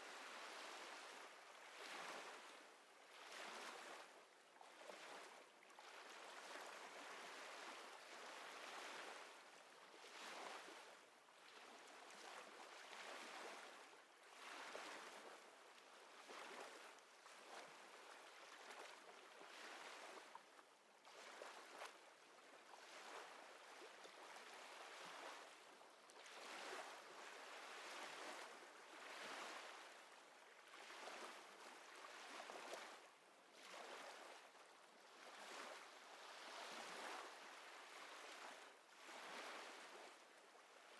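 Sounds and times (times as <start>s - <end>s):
small waves lapping at shore: 0.0s - 40.9s.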